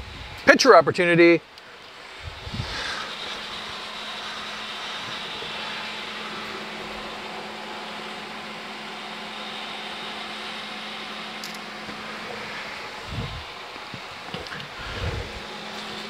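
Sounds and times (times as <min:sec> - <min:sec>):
grill fan humming: 0:00.0 - 0:16.0.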